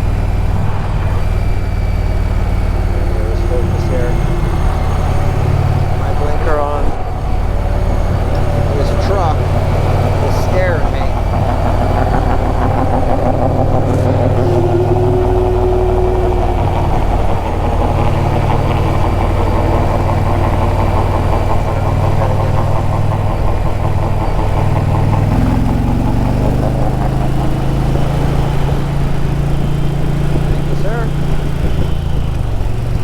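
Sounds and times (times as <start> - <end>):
motorcycle engine running: 0.0 - 33.0
road noise: 0.0 - 33.0
wind: 0.0 - 33.0.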